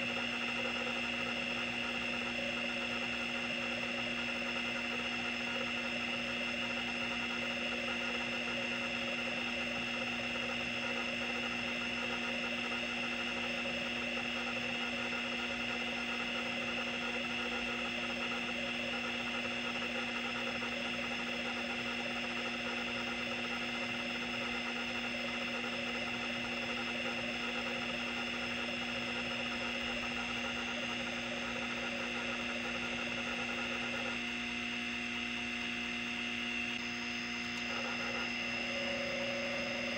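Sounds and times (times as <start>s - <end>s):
hard drive head arm buzzing: 0.0s - 39.9s
hard drive spindle hum and whine: 0.0s - 39.9s.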